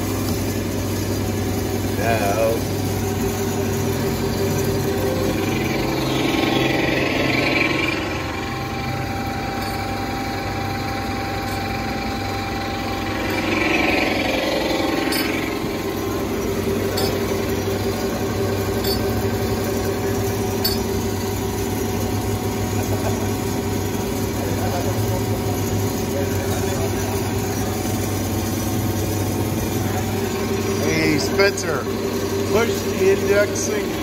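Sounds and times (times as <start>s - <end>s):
bandsaw machine hum: 0.0s - 34.0s.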